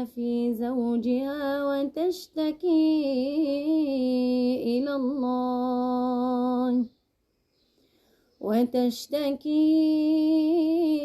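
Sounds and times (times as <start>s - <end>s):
woman reciting melodically: 0.0s - 7.0s, 8.4s - 11.0s.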